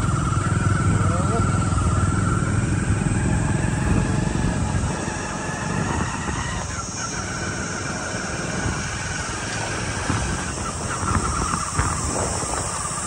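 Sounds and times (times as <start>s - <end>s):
motorcycle engine on dirt track: 0.0s - 13.0s
wind on microphone: 0.0s - 13.0s.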